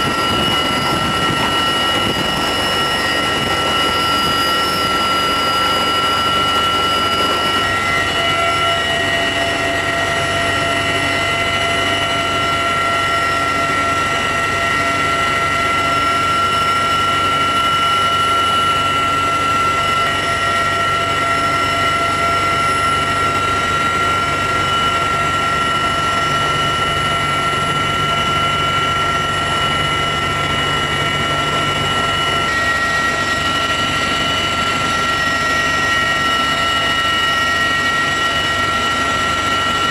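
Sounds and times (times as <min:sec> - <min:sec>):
helicopter rotor and turbine din: 0:00.0 - 0:39.9
high steady whines: 0:00.0 - 0:39.9.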